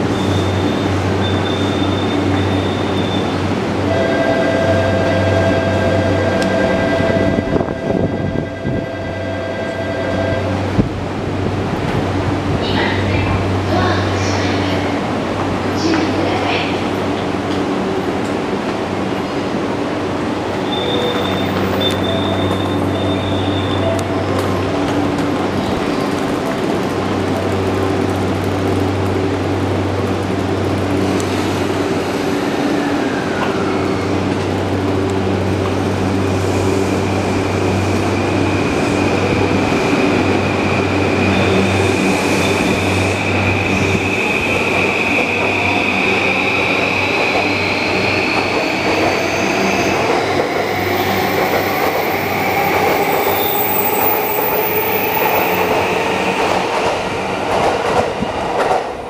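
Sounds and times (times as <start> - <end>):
rail running noise: 0.0 - 59.0.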